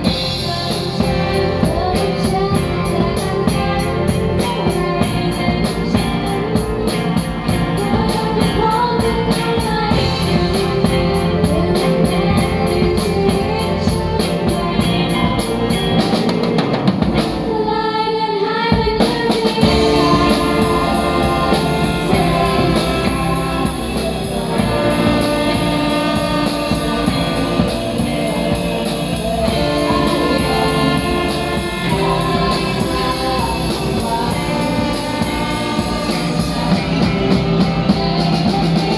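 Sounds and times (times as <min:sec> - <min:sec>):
live band playing: 0:00.0 - 0:17.9, 0:18.6 - 0:38.9
person singing: 0:00.0 - 0:38.9.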